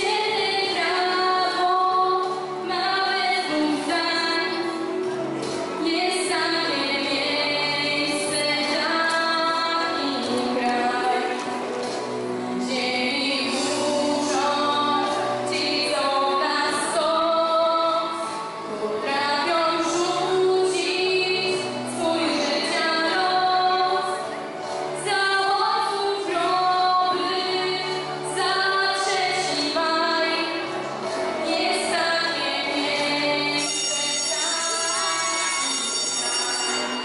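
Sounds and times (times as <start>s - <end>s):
girl singing into microphone: 0.0s - 11.7s, 12.5s - 35.9s.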